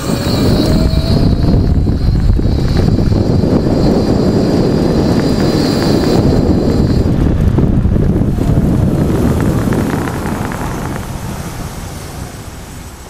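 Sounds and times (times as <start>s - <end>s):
tyre and road noise: 0.0s - 13.0s
wind rushing over microphone: 0.0s - 13.0s.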